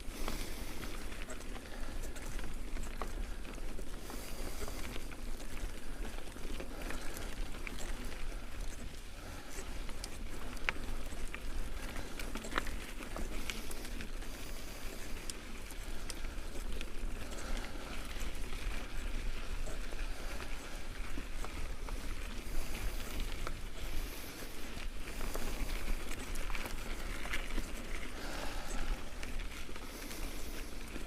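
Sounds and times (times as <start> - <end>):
bike tyres crunching on gravel: 0.0 - 31.0.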